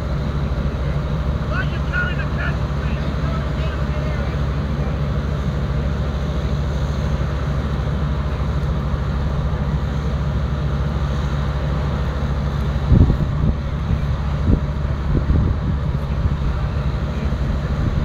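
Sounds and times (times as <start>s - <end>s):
engines droning: 0.0s - 18.0s
low buffeting: 0.0s - 18.0s.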